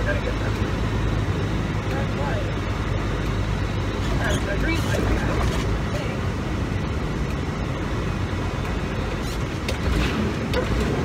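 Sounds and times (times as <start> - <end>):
road noise: 0.0 - 11.0
truck diesel engine rumble: 0.0 - 11.0.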